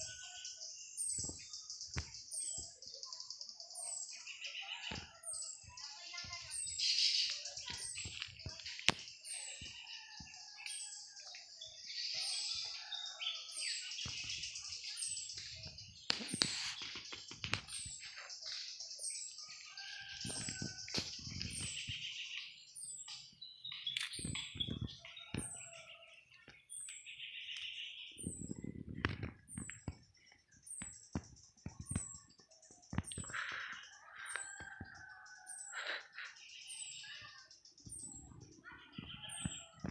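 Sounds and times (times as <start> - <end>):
chatter of birds and insects: 0.0 - 39.9.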